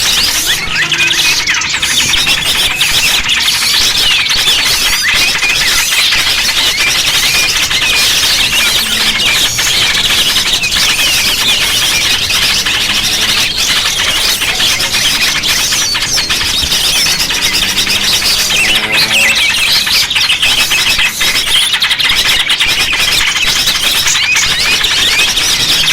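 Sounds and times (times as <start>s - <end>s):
small birds chattering and squeaking: 0.0s - 25.9s.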